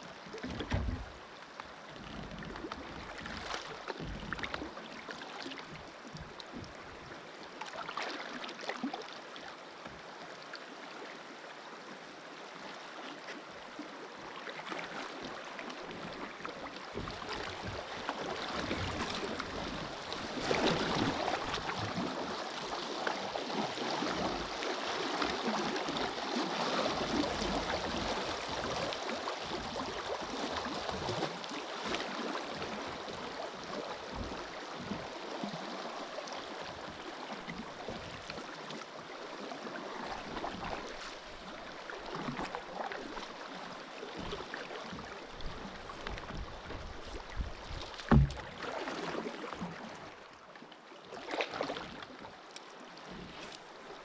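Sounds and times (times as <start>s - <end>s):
river water lapping around kayak: 0.0s - 54.0s
small knocks and splashes: 0.2s - 9.1s, 14.5s - 54.0s.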